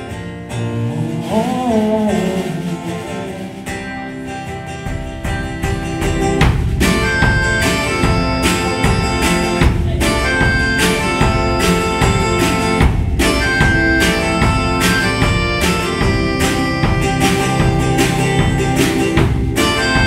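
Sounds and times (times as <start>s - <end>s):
acoustic guitar strumming: 0.0s - 20.0s
drum kit: 0.0s - 20.0s.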